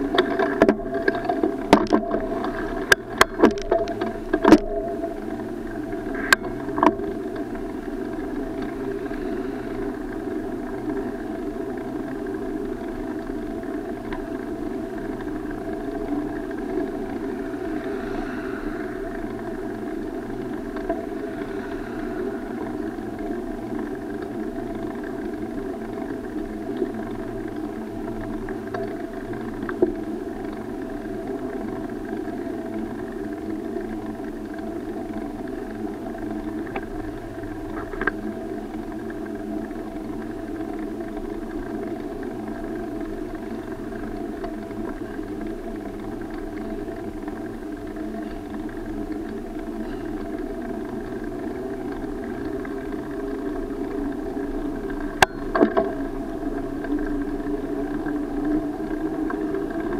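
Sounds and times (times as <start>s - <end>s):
bicycle rumbling on brick paving: 0.0s - 59.9s.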